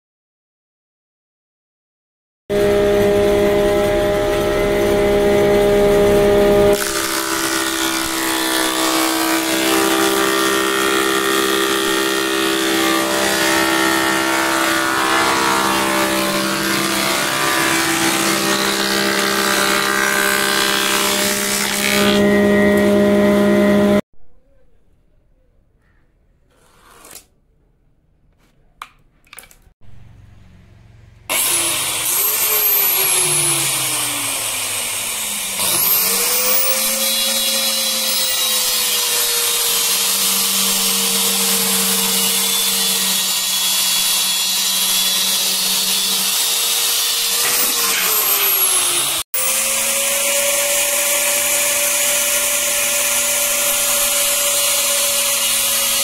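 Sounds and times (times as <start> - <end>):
power tool whining through wood: 2.5 - 24.0, 31.2 - 56.0.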